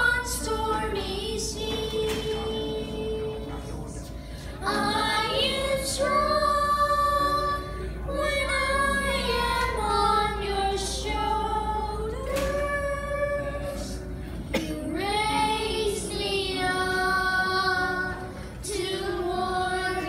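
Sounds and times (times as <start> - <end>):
children singing into microphones: 0.0 - 20.0
piano: 0.0 - 20.0.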